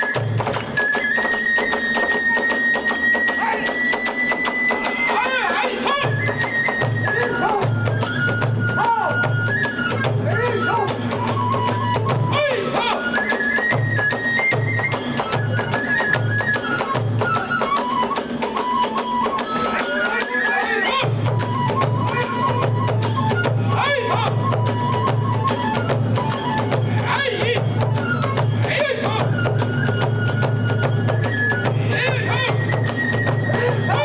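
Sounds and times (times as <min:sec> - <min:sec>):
bamboo flute melody: 0:00.0 - 0:34.0
pulsing drum beat: 0:00.0 - 0:34.0.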